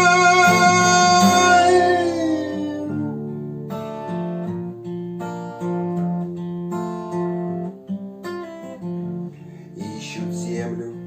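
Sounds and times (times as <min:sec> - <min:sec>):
guitar picking chords: 0:00.0 - 0:11.0.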